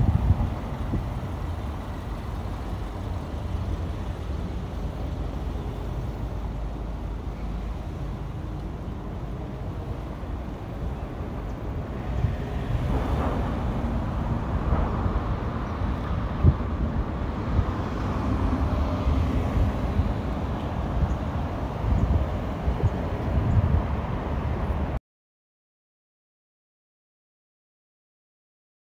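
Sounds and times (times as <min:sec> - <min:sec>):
cars driving past: 0:00.0 - 0:25.0
wind rumble on microphone: 0:00.0 - 0:25.0.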